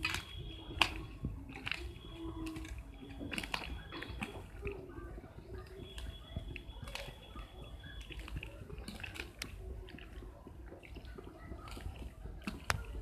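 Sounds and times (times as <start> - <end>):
hand squelching batter in bowl: 0.0 - 13.0.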